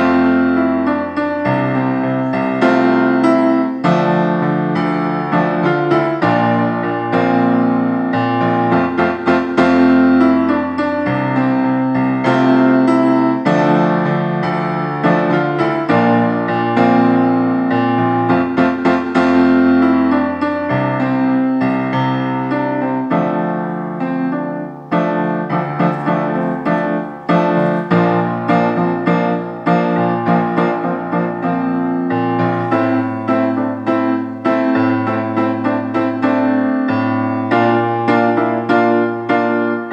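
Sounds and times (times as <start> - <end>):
piano chords and bass line: 0.0 - 39.9.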